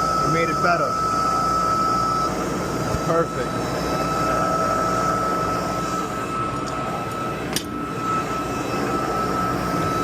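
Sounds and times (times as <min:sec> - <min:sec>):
boiler burner roar: 0:00.0 - 0:10.0
thin steady whine: 0:00.0 - 0:10.0.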